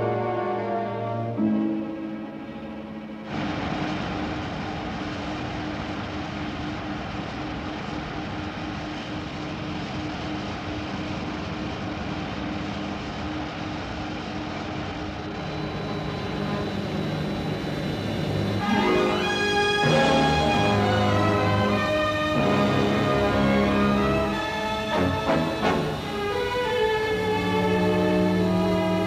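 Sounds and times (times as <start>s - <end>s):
faint music: 0.0s - 29.0s
vehicle engine drone: 3.3s - 29.0s.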